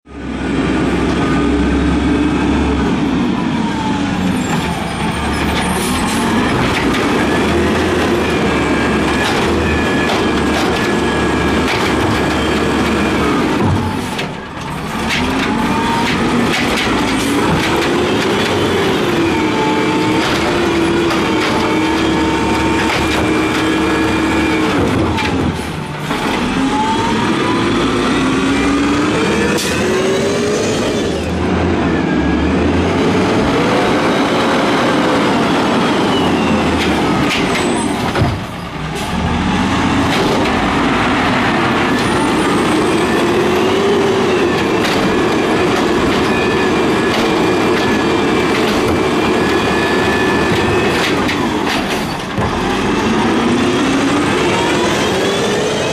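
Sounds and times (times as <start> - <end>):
truck diesel engine revving: 0.1 - 55.9.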